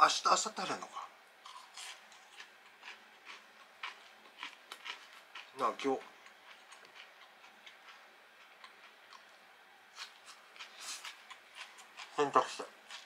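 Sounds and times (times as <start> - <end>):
person chewing crunchy food: 1.4 - 13.0.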